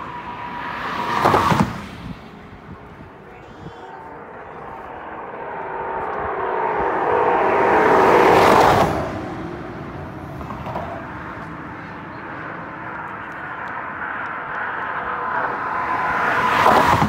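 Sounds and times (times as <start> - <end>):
steady traffic hum: 0.0 - 17.0
vehicle passing: 0.0 - 17.0.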